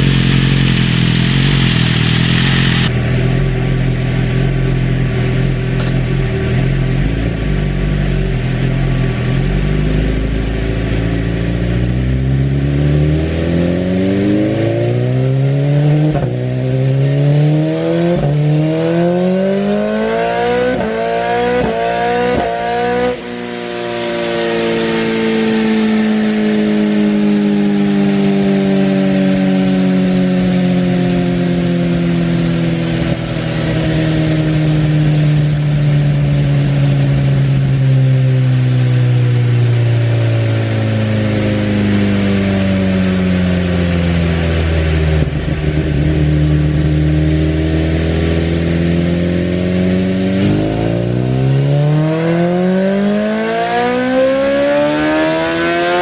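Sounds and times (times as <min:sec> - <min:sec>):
motorcycle engine revving on dyno: 0:00.0 - 0:56.0.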